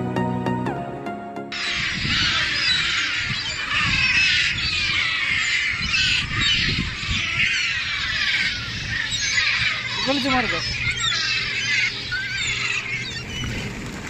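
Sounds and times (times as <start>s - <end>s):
gulls calling: 1.5s - 14.0s.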